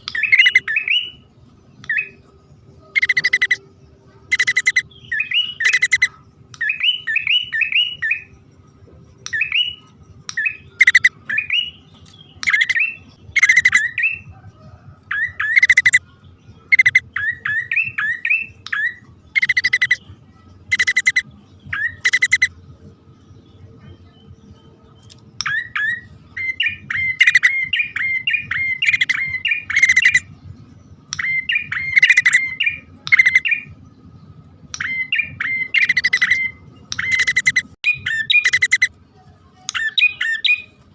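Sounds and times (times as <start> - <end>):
birds calling: 0.0 - 8.4, 9.2 - 40.9
quick upswept chirps: 0.0 - 8.6, 9.2 - 14.4, 15.1 - 16.0, 16.6 - 22.6, 24.9 - 34.2, 34.8 - 39.0.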